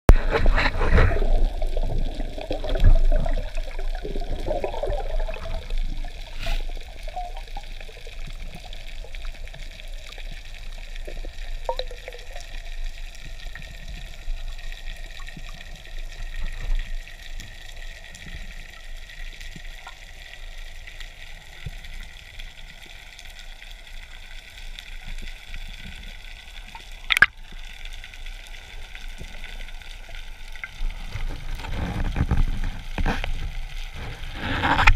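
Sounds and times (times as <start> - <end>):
water rushing and bubbling: 0.1 - 20.6, 24.8 - 34.9
underwater hiss: 0.1 - 34.9.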